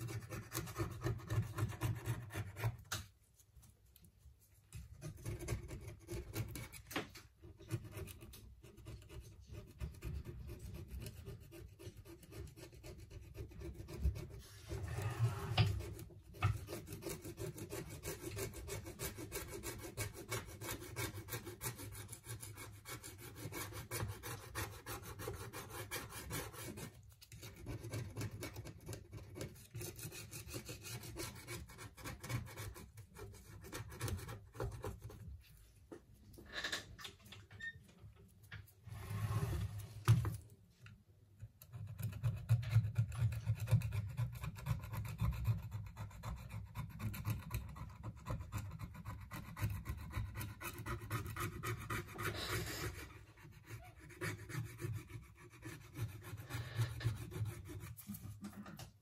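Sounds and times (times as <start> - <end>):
tools scraping a smartphone: 0.0 - 3.2, 4.7 - 35.4, 41.4 - 59.0.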